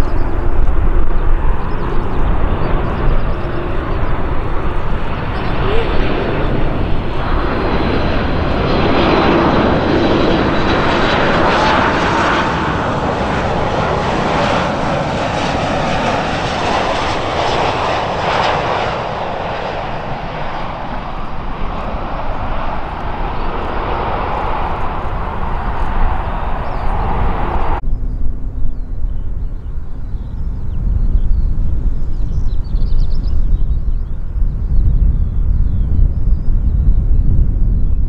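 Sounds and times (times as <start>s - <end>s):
jet engine roar with whine: 0.0s - 38.0s.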